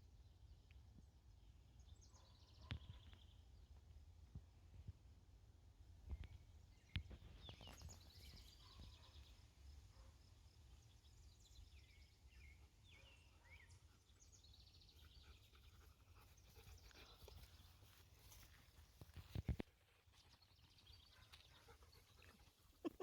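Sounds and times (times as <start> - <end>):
faint birdsong chirps: 0.0 - 5.0, 5.7 - 23.0.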